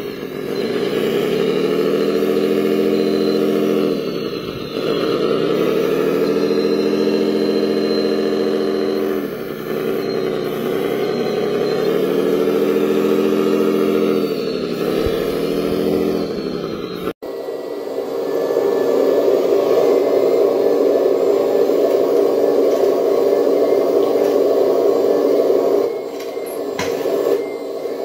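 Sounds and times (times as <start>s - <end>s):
faint high whine: 0.0s - 28.0s
toy loader motor drone: 0.0s - 28.0s.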